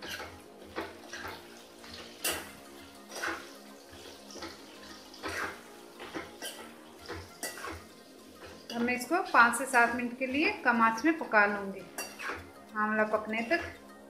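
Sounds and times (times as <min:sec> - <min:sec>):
metal spatula scraping in a pan: 0:00.0 - 0:09.6, 0:11.8 - 0:13.9.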